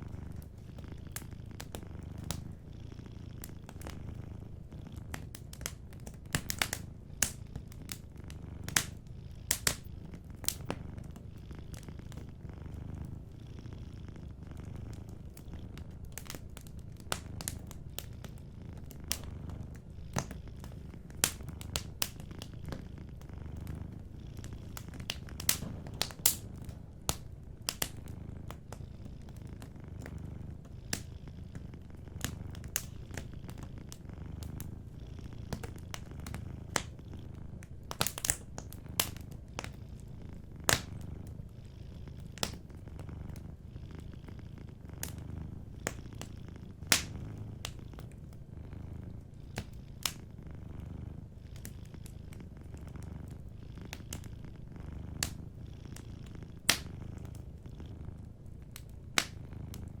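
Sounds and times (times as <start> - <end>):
wood fire crackling: 0.0 - 2.6, 3.4 - 41.5, 42.1 - 57.5, 58.2 - 60.0
cat purring: 0.0 - 60.0.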